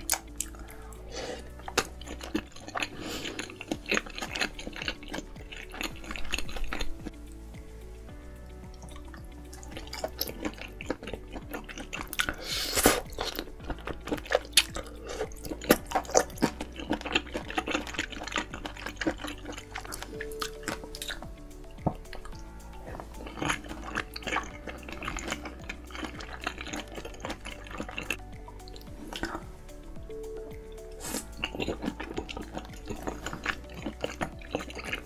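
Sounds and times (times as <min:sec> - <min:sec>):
person chewing food: 0:00.0 - 0:35.0
soft background music: 0:00.0 - 0:35.0.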